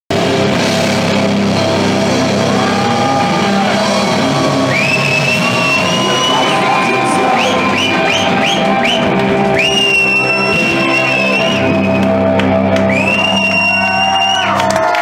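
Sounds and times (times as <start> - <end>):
live rock band playing: 0.1 - 14.9.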